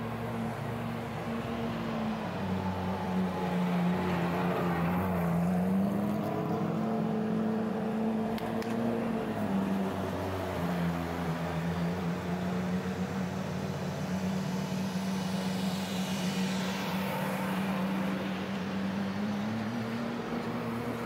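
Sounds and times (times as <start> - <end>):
car engines droning at low revs: 0.0 - 21.0.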